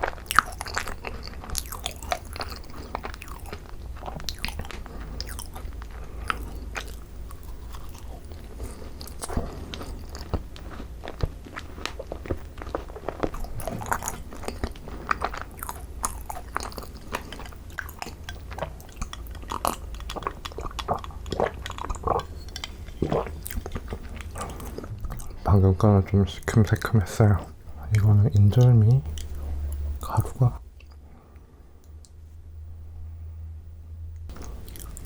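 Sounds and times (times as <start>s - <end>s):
crisp crackles of chewing: 0.0s - 32.2s, 34.3s - 35.0s
soft sticky chewing: 0.0s - 32.4s, 34.2s - 35.0s.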